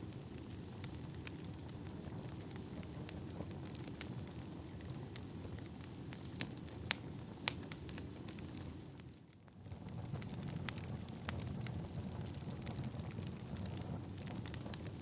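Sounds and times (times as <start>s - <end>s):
fire rumbling: 0.0s - 15.0s
firewood crackling and popping: 0.0s - 15.0s.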